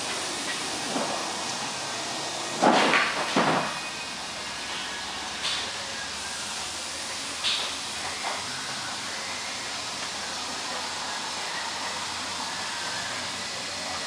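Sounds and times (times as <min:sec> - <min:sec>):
background air hiss: 0:00.0 - 0:14.0.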